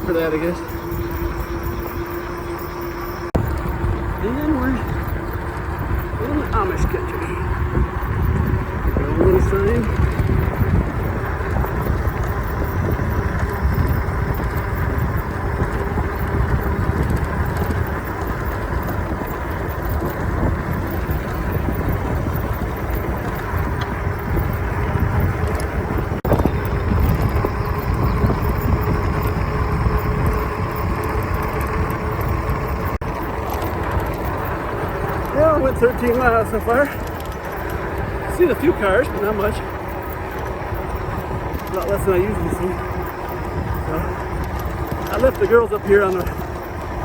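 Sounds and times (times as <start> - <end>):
wind and road noise rumble: 0.0 - 47.0.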